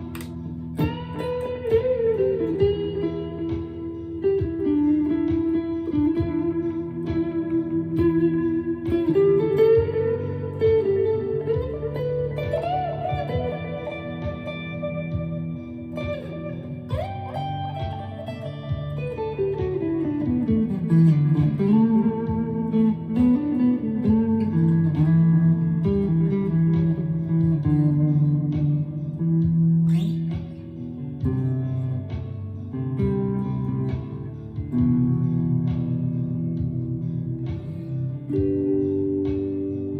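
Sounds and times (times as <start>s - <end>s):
ambient electric guitar: 0.0s - 39.9s.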